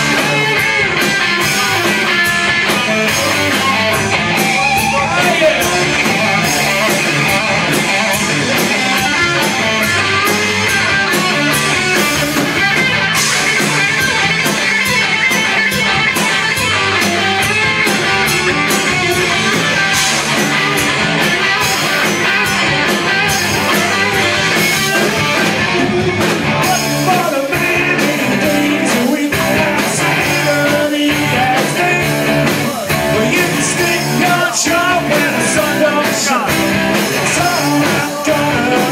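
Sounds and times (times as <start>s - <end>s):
drum kit and cymbal hits: 0.0s - 38.9s
electric guitars: 0.0s - 38.9s.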